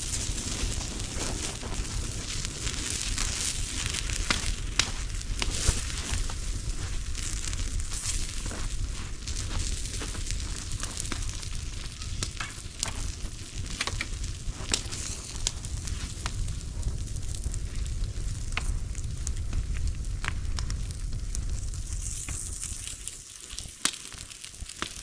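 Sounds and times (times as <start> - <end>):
bonfire hissing and crackling: 0.0 - 25.0.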